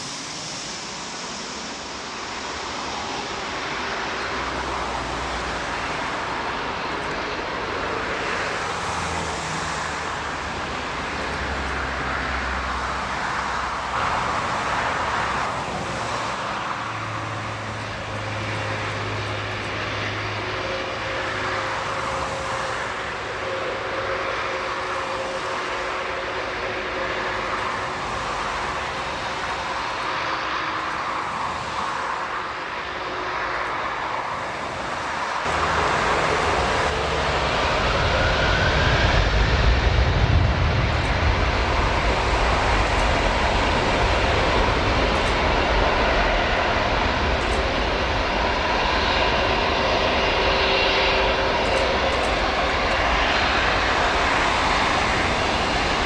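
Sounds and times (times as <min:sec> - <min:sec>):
airliner jet engines running: 0:00.0 - 0:56.0.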